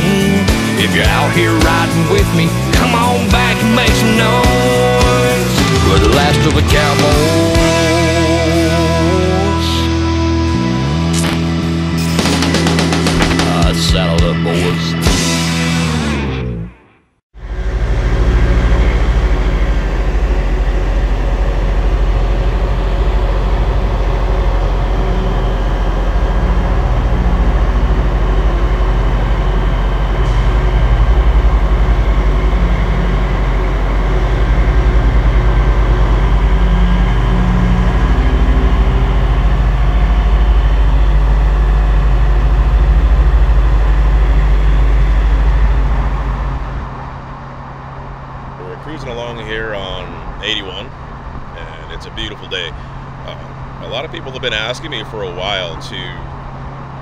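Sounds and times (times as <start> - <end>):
diesel truck engine rumble: 0.0 - 16.6, 17.4 - 57.0.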